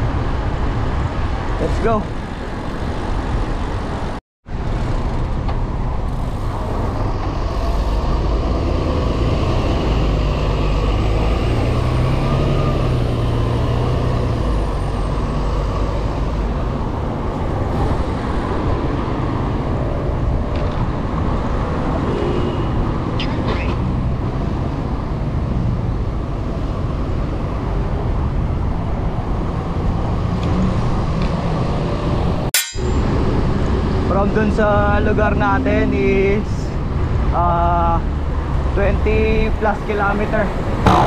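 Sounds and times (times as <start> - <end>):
road traffic rumble: 0.0 - 41.0
passing vehicle engine hum: 2.2 - 37.4.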